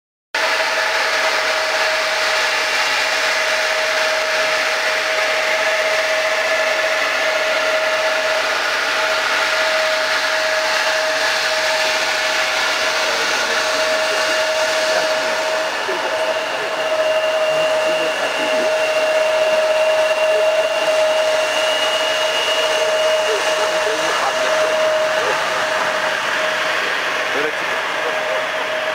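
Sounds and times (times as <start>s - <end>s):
jet engines whistling whine: 0.4s - 28.9s.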